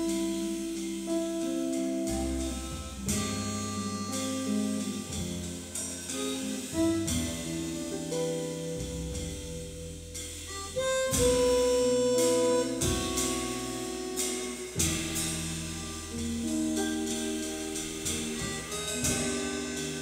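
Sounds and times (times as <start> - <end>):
guitar: 0.0 - 9.6, 10.4 - 15.2, 16.2 - 20.0
double bass: 0.0 - 20.0
drums: 0.0 - 20.0
harmonica playing jazz: 0.0 - 20.0.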